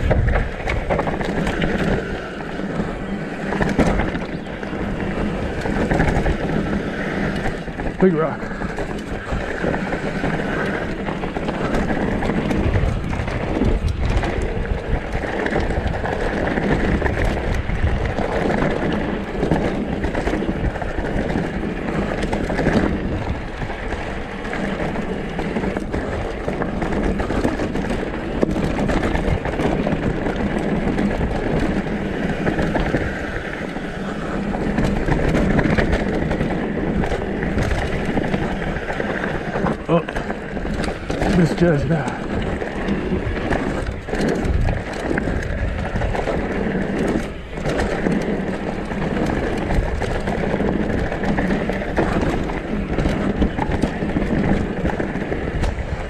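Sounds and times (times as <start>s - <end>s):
bike clattering over rocks: 0.0s - 56.0s
tyre and wind noise: 0.0s - 56.0s.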